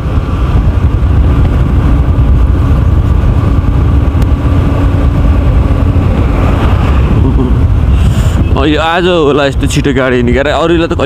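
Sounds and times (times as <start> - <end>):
low rumble: 0.0 - 11.0
motorcycle engine cruising: 0.0 - 11.0.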